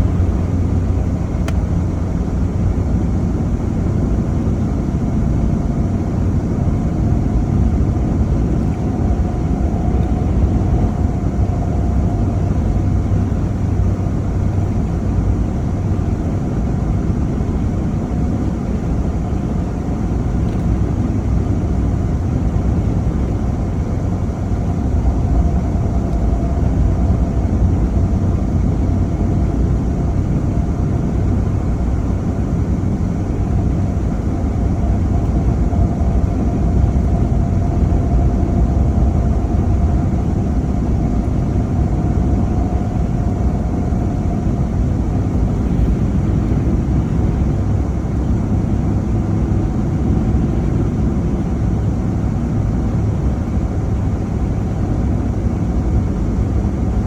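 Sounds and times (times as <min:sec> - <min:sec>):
faint steady whine: 0:00.0 - 0:57.0
road and engine rumble: 0:00.0 - 0:57.0.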